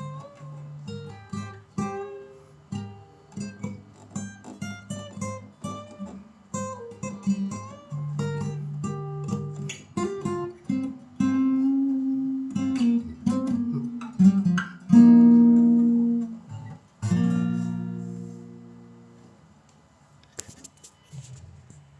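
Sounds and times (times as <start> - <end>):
acoustic guitar strumming: 0.0 - 19.5.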